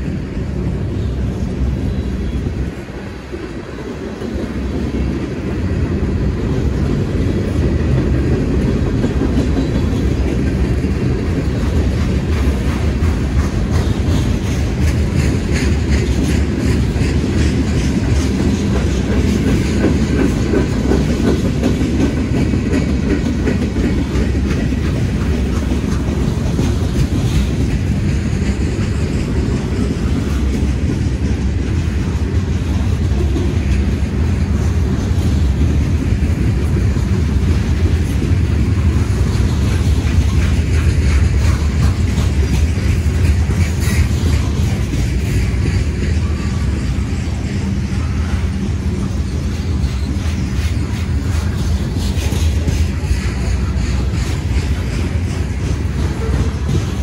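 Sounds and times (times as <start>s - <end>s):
train wheels rumbling on rails: 0.0s - 57.0s
wheels clicking over rail joints: 1.0s - 57.0s.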